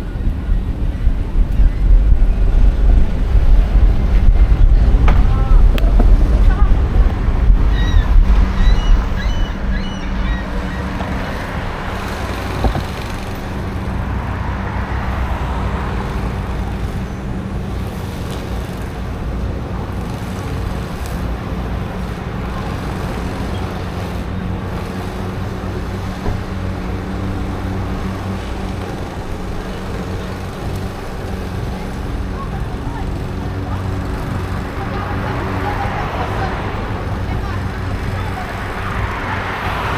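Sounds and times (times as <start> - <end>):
road traffic engine hum: 0.0 - 39.9.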